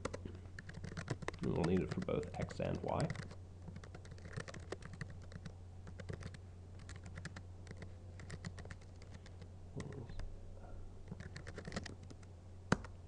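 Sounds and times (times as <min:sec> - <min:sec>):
keyboard typing: 0:00.0 - 0:10.2, 0:11.1 - 0:13.0
steady low hum: 0:00.0 - 0:13.0.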